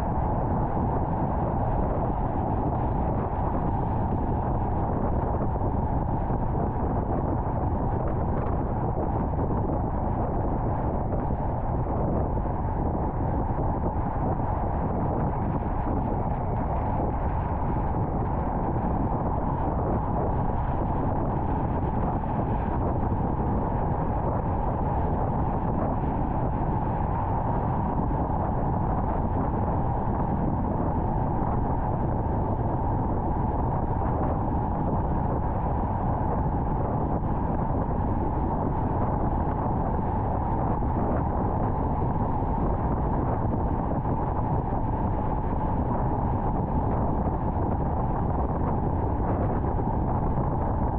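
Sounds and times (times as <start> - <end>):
car road and wind noise: 0.0 - 50.9.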